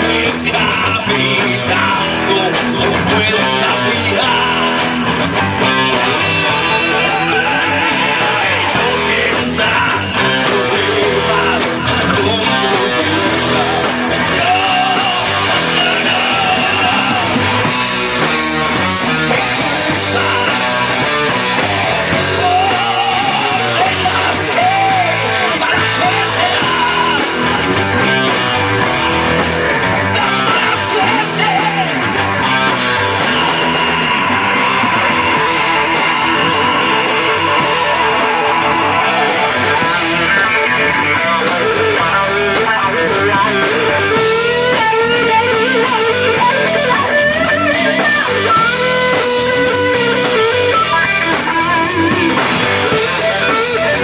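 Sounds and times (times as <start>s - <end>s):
electric guitar solo: 0.0s - 54.0s
hard rock band playing: 0.0s - 54.0s.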